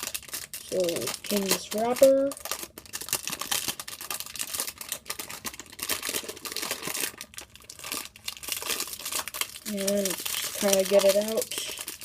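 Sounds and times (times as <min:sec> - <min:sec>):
plastic wrapper crinkling and tearing: 0:00.0 - 0:12.0.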